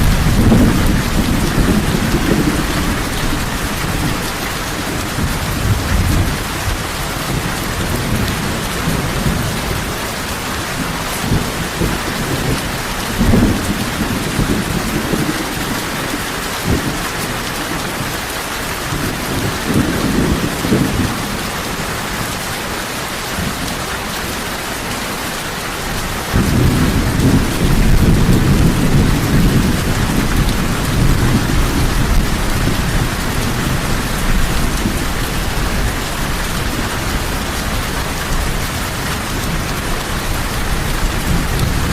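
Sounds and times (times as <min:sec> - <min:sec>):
thunder rumbling: 0:00.0 - 0:18.1, 0:18.9 - 0:22.4, 0:25.8 - 0:41.9
heavy rain hissing: 0:00.0 - 0:41.9.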